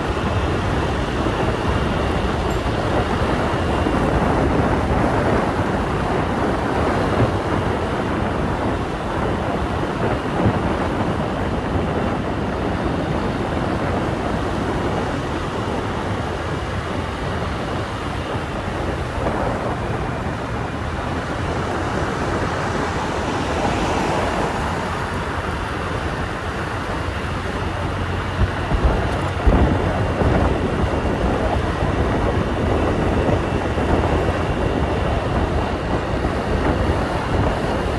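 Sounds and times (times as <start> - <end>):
motorbike engine rumble: 0.0 - 37.9
road noise: 0.0 - 37.9
wind buffeting microphone: 0.0 - 37.9.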